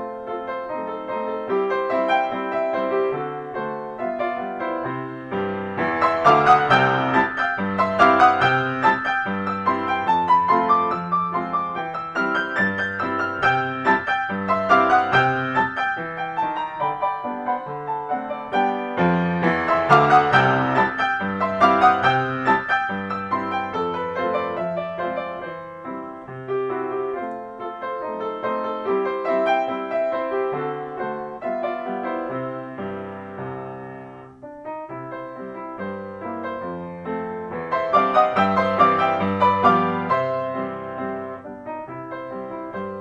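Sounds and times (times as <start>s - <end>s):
solo piano piece: 0.0s - 43.0s.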